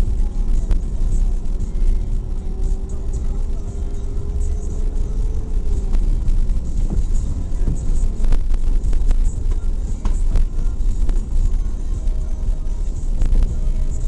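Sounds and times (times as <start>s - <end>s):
rising whine: 0.0s - 14.0s
vehicle engine rumble: 0.0s - 14.0s.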